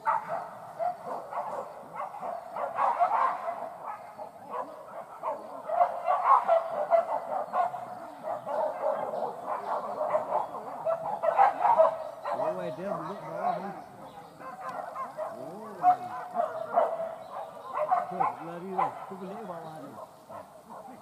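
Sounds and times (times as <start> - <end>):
dogs barking and yelping: 0.0 - 21.0.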